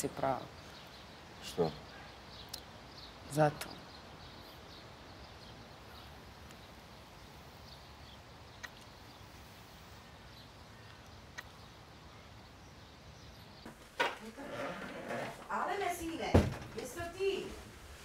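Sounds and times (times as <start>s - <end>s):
distant bird chirps: 0.0s - 14.8s.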